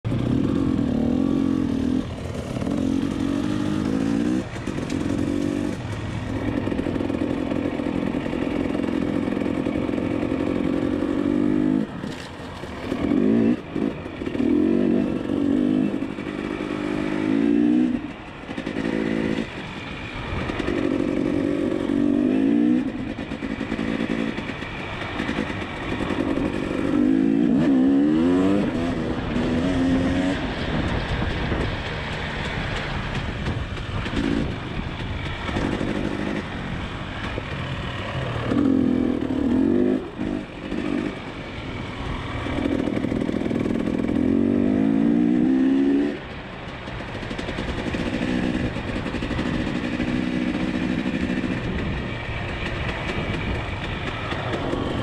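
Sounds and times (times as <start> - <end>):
dirt bike engine revving: 0.1 - 31.8, 33.4 - 46.2.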